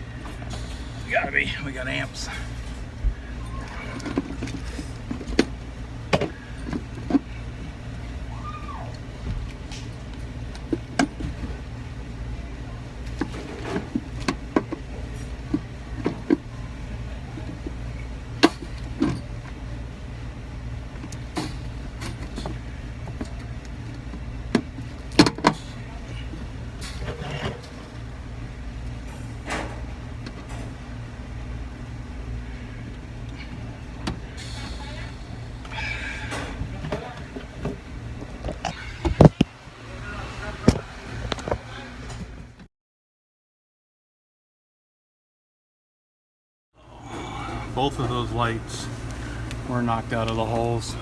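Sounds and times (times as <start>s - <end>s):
low machine hum: 0.0s - 42.6s, 46.8s - 51.0s.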